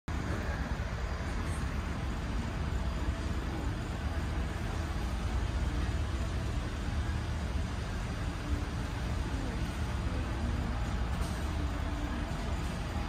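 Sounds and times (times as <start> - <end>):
store background rumble: 0.1 - 13.0.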